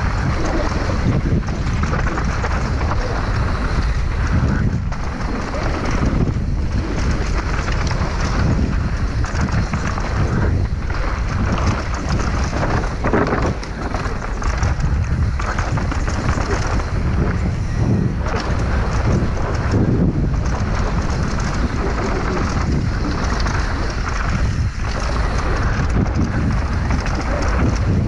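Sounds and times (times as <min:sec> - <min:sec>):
bike clattering over bumps: 0:00.0 - 0:28.0
tyres rolling over dirt and stones: 0:00.0 - 0:28.0
wind buffeting microphone: 0:00.0 - 0:28.0.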